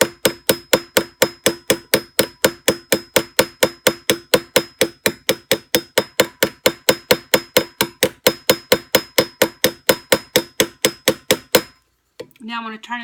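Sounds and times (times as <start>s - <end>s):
hammer tapping on metal rivet: 0.0s - 12.3s.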